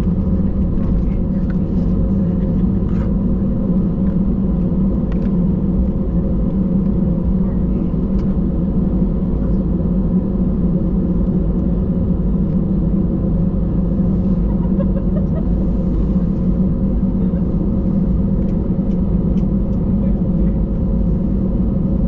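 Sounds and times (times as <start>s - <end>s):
aircraft cabin engine rumble: 0.0s - 22.0s
faint constant hum: 0.0s - 22.0s.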